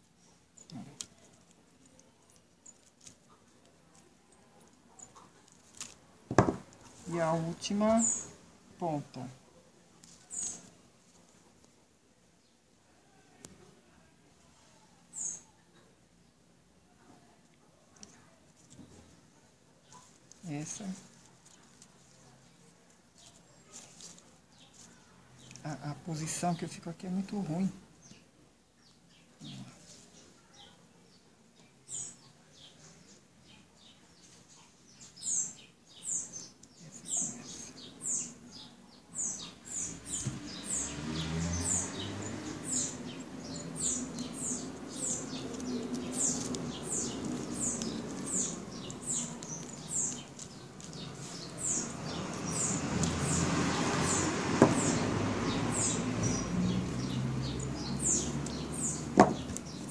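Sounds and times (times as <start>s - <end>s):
bird chirping: 0.0s - 9.4s, 10.0s - 11.2s, 14.9s - 15.6s, 23.2s - 59.9s.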